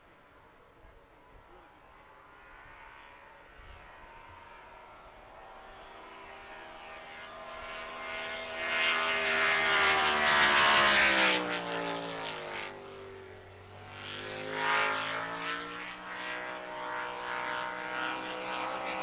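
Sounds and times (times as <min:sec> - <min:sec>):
racing boat engine passing by: 0:01.7 - 0:19.0.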